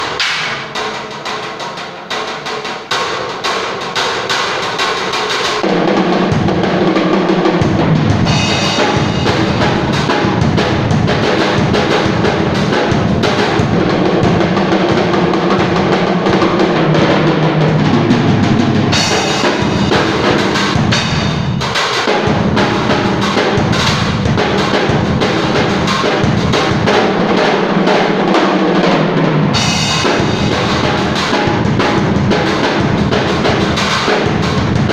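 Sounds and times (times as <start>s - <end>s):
drum kit groove: 0.0s - 34.9s
bass and other instruments: 5.6s - 34.9s.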